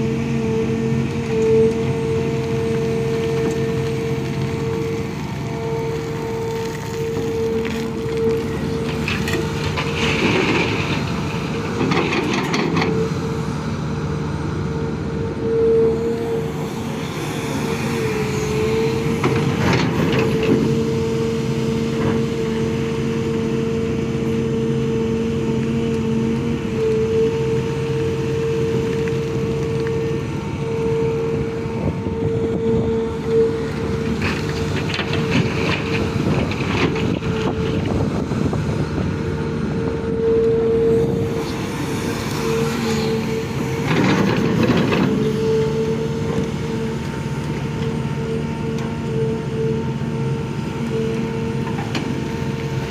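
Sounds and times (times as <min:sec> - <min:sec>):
excavator diesel engine whining: 0:00.0 - 0:52.9.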